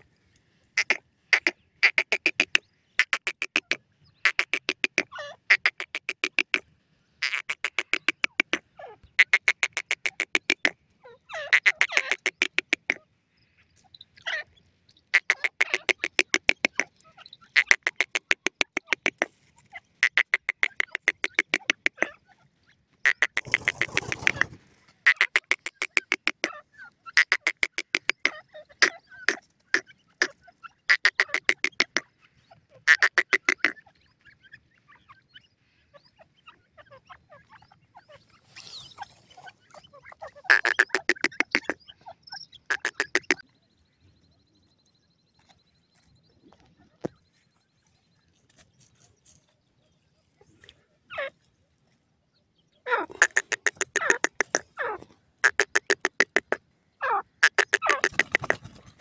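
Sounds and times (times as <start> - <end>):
francolin rattling call: 0.8 - 35.8, 36.5 - 47.8, 52.8 - 59.0.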